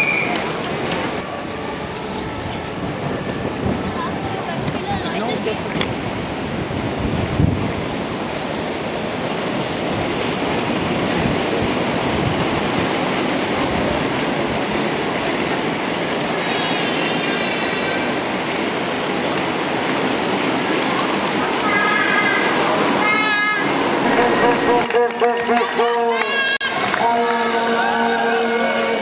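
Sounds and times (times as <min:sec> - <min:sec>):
rain on a wet road: 0:00.0 - 0:29.0.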